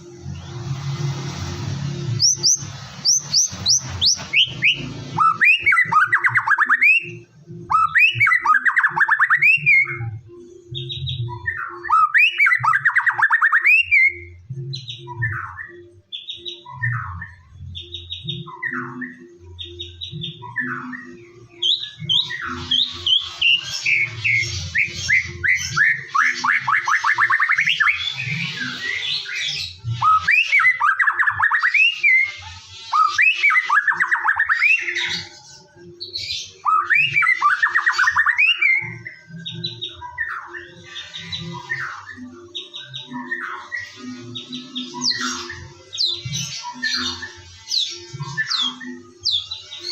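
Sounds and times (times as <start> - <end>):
songbird whistling and trilling: 2.1 - 49.9.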